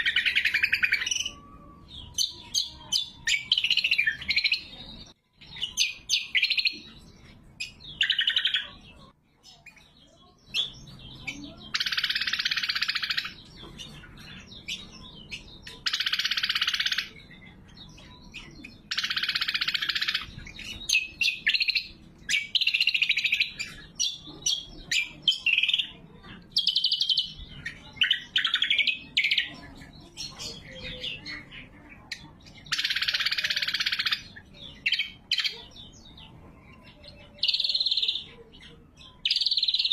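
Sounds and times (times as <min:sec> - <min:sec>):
bird singing rattling phrases: 0:00.0 - 0:39.9.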